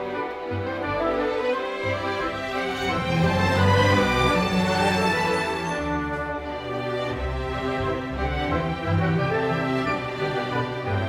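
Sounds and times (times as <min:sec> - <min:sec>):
orchestral music: 0:00.0 - 0:11.0.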